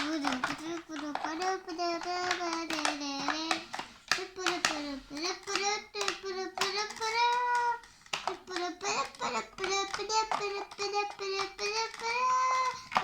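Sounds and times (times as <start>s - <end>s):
young child singing: 0.0s - 13.0s.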